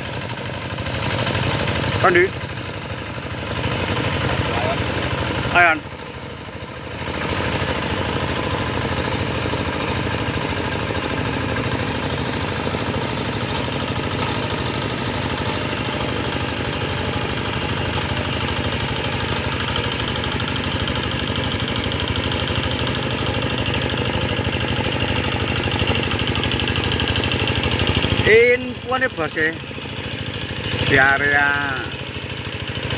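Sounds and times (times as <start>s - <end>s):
diesel engine running under load: 0.0s - 32.9s.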